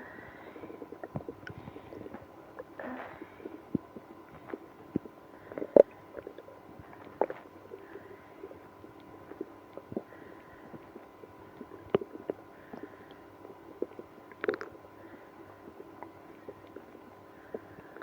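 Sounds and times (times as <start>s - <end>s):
stomach growling and gurgling: 0.0s - 18.0s.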